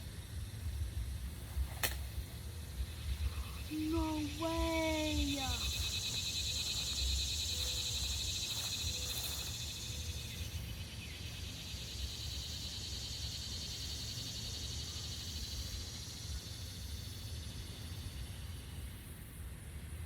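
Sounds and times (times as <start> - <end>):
insects trilling: 0.0 - 19.4.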